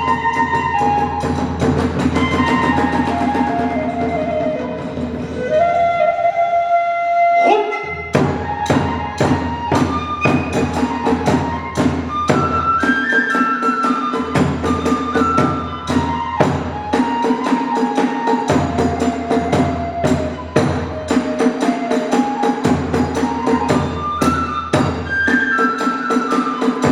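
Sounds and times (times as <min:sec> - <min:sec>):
flute melody: 0:00.0 - 0:26.9.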